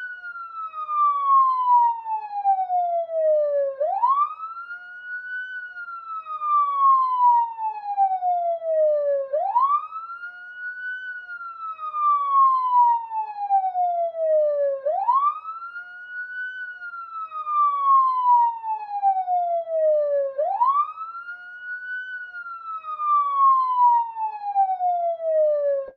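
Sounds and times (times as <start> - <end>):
police siren wailing: 0.0 - 25.9.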